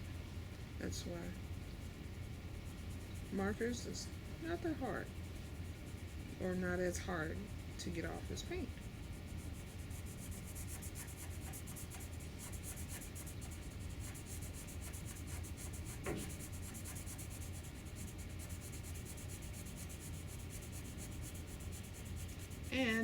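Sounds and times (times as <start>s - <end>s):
marker scribbling on paper: 0.8s - 23.0s.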